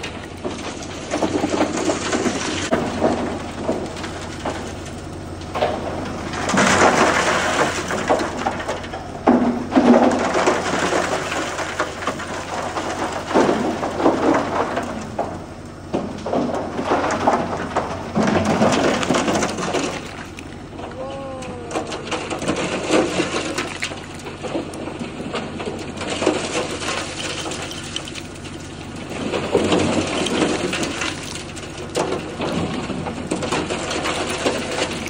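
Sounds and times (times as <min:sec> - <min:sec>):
concrete chunks clattering down chute: 0:00.0 - 0:35.0
truck engine humming: 0:00.0 - 0:35.0.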